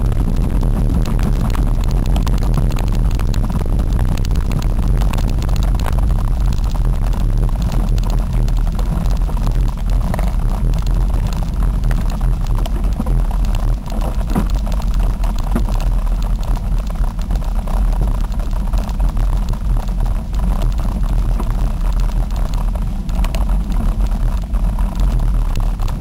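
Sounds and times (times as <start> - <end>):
camera rattling on bumps: 0.0 - 26.0
wind buffeting microphone: 0.0 - 26.0.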